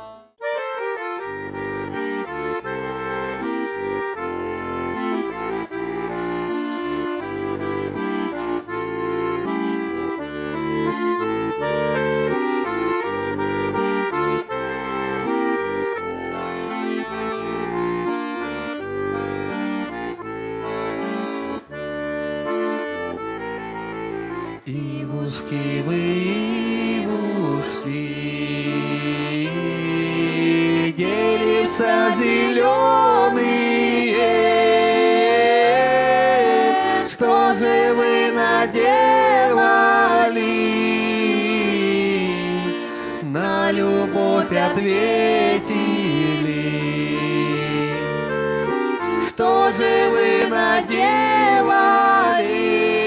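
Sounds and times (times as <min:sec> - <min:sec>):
accordion playing folk tune: 0:00.0 - 0:53.0.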